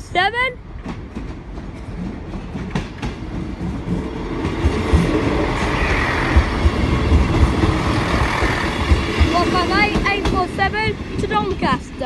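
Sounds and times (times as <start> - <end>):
diesel train passing: 0.0 - 12.0
train wheels clattering over rail joints: 0.8 - 12.0.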